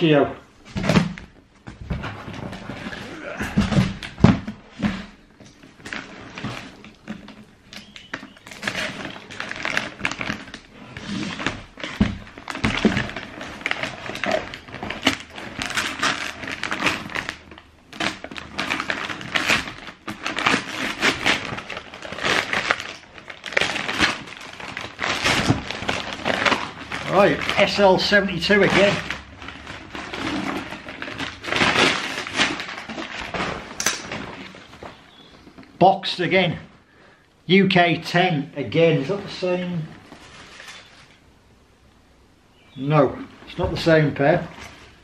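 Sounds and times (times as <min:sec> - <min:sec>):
paper and cardboard rustling: 0:00.7 - 0:35.6, 0:38.9 - 0:41.2.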